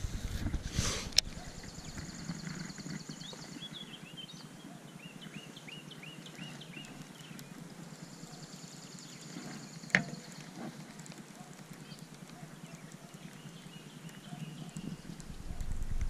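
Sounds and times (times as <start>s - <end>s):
songbirds trilling and chirping: 0.7s - 16.0s.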